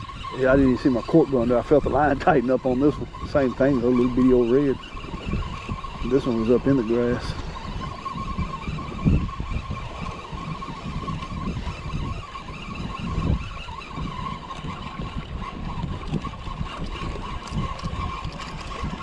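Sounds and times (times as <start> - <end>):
thin steady high whine: 0.0 - 19.0
wind buffeting microphone: 0.0 - 19.0.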